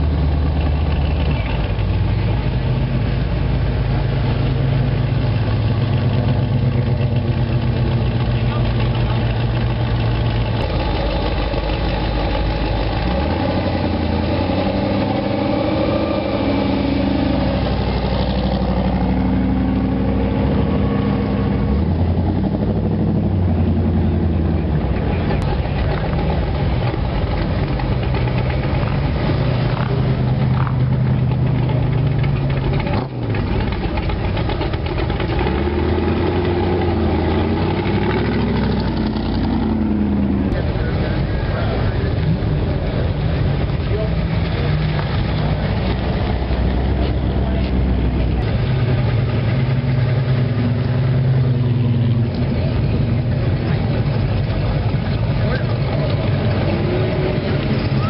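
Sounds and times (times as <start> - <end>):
hot rod engines idling: 0.0 - 58.0.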